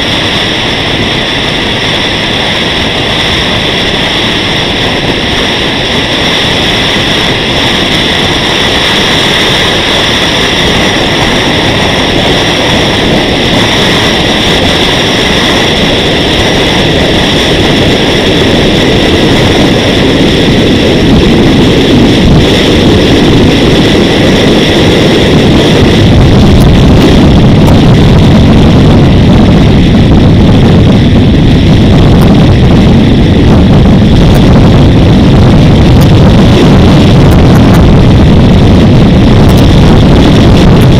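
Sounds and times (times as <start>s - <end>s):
high whine: 0.0s - 40.9s
wind and road noise: 0.0s - 40.9s.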